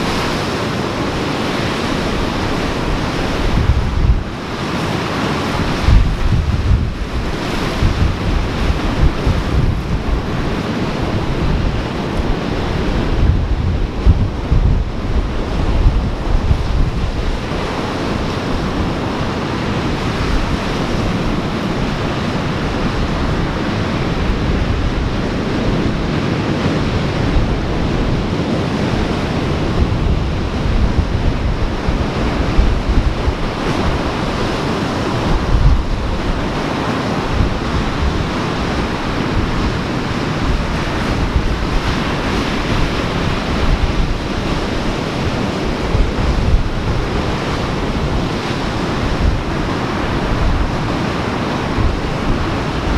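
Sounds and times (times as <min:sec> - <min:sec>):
ocean surf washing: 0:00.0 - 0:52.9
wind buffeting microphone: 0:00.0 - 0:52.9.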